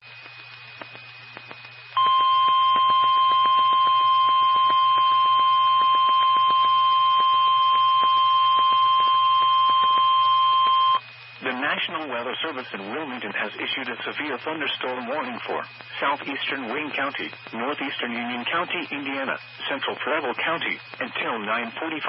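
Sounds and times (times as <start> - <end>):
radio static crackling: 0.0 - 22.0.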